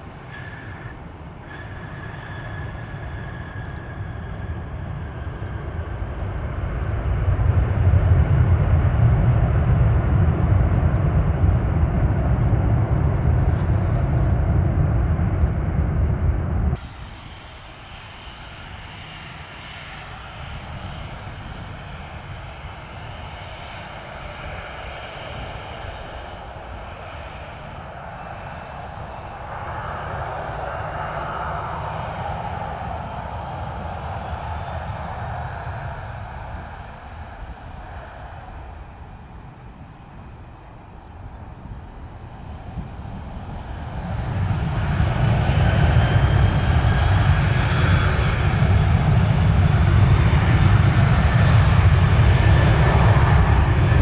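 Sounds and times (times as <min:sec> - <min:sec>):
jet engine whine: 0:00.0 - 0:54.0
jet engines rumbling: 0:00.0 - 0:54.0.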